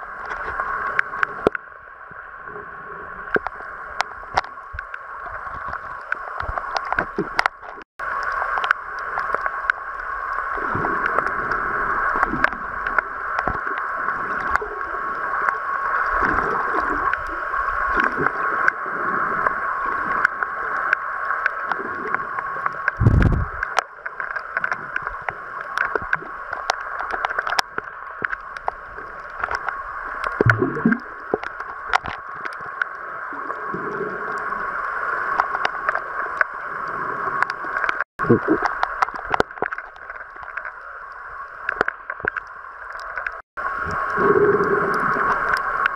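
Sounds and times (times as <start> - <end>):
muffled underwater hiss: 0.0 - 45.9.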